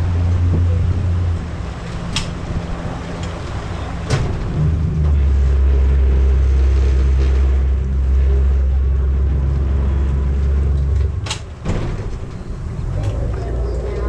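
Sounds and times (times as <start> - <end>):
ferry engine drone: 0.0 - 14.0.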